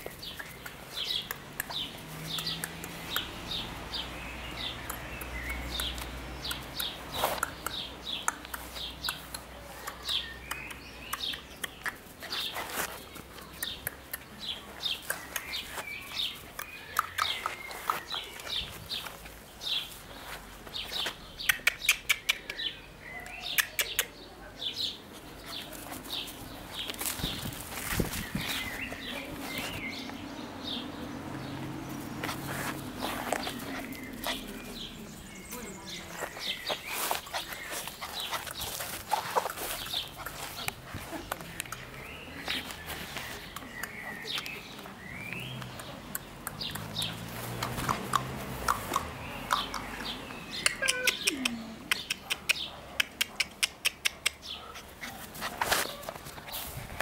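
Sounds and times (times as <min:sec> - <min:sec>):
small songbird chirping: 0:00.0 - 0:52.8.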